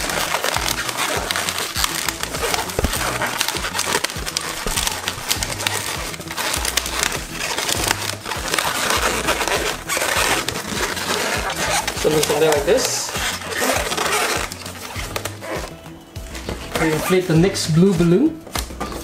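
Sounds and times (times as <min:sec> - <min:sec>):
balloons squeaking and rubbing: 0:00.0 - 0:19.0.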